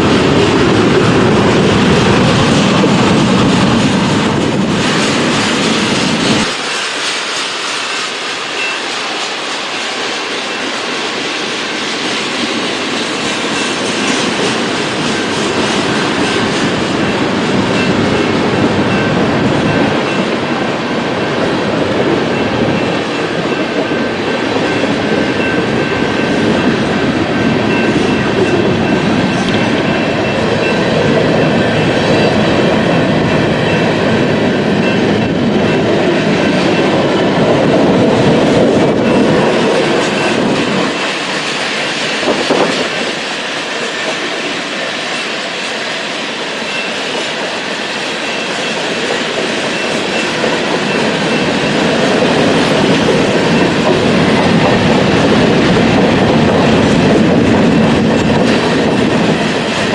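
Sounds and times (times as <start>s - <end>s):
freight train cars rolling past: 0.0s - 59.9s
train wheels clacking over rail joints: 0.0s - 59.9s.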